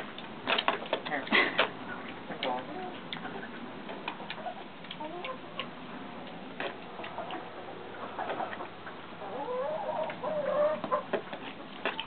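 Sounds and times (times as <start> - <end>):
pig chewing and smacking: 0.0 - 9.2, 10.8 - 12.0
chickens clucking: 0.0 - 12.0.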